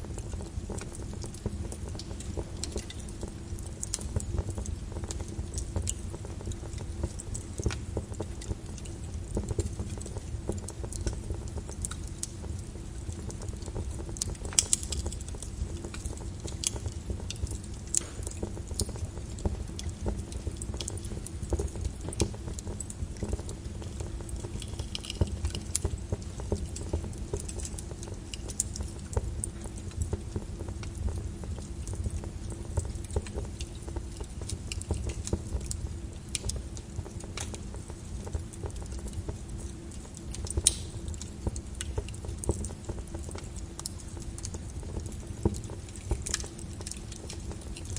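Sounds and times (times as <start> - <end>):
lava crackling and popping: 0.0 - 47.9.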